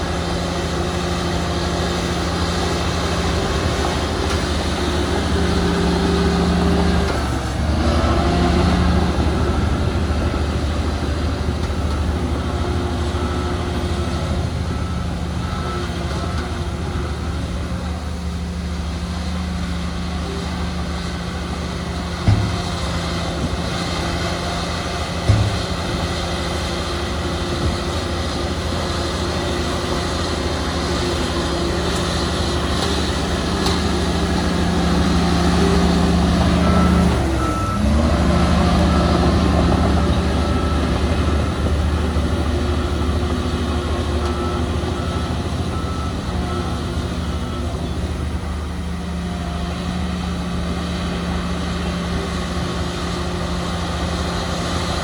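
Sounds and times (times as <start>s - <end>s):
diesel machinery engine running: 0.0s - 55.0s
reversing alarm beeping: 0.0s - 55.0s.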